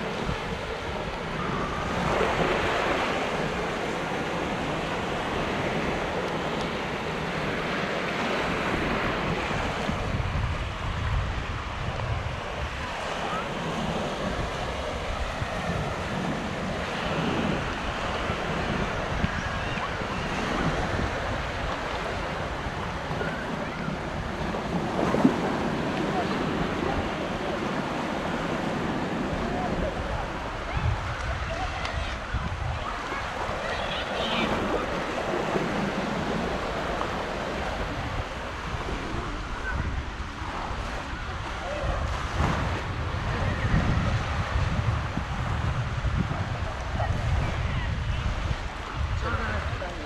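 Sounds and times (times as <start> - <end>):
sea surf washing onto beach: 0.0 - 50.0
wind buffeting microphone: 0.0 - 50.0.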